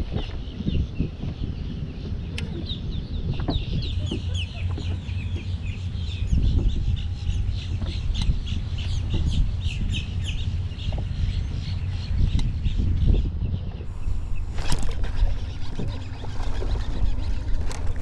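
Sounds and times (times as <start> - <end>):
birds chirping rapidly: 0.0 - 18.0
steady low rumble: 0.0 - 18.0.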